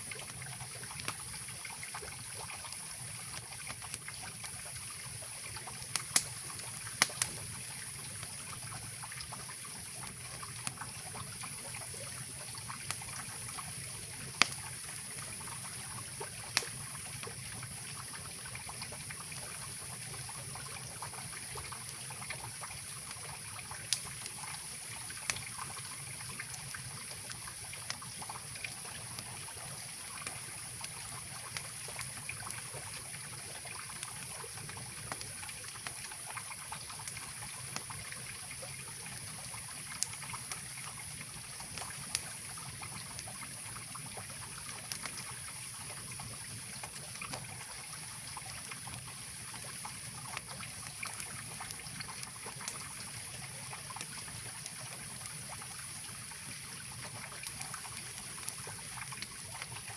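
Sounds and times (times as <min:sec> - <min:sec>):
campfire popping: 0:00.0 - 0:59.9.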